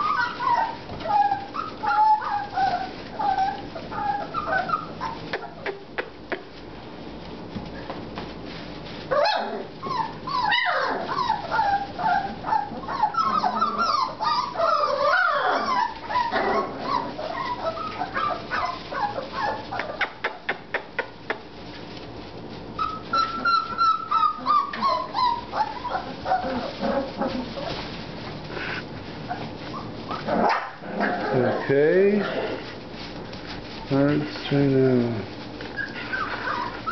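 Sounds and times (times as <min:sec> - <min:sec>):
puppies whimpering and yipping: 0:00.0 - 0:06.6, 0:08.5 - 0:36.9
puppy whining: 0:00.0 - 0:06.6, 0:09.0 - 0:21.6, 0:22.6 - 0:34.5, 0:35.3 - 0:36.9.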